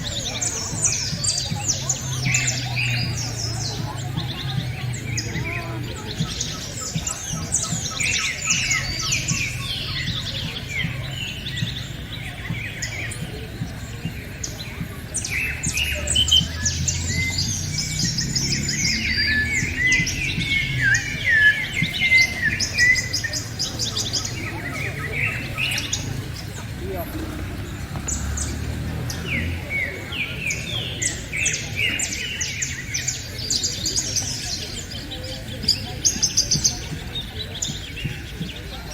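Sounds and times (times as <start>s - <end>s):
birds chirping in chorus: 0.0s - 38.9s.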